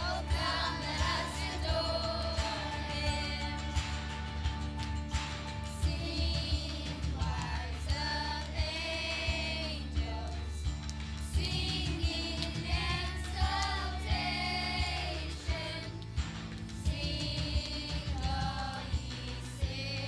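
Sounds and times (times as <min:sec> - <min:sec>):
voices singing a song: 0:00.0 - 0:20.0.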